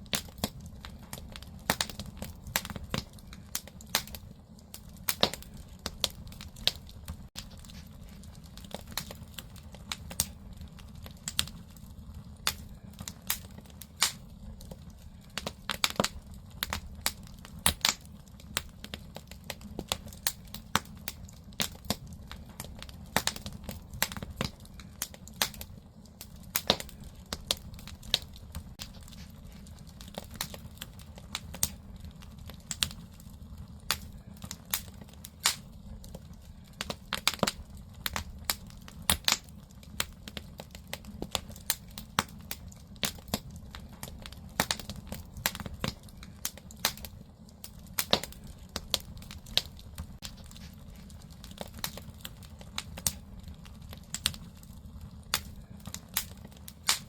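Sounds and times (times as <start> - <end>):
firewood crackling and popping: 0.0 - 57.0
low rumble of fire: 0.0 - 57.0.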